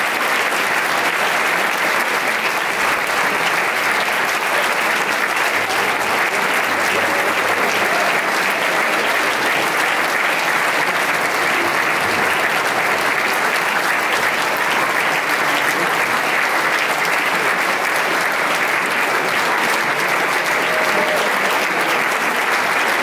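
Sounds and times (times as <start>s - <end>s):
crowd applauding: 0.0s - 23.0s.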